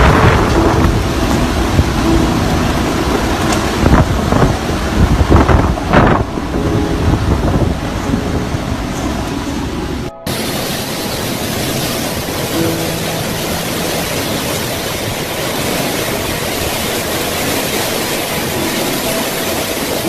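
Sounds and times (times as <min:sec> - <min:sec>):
wind gusting on microphone: 0:00.0 - 0:20.0.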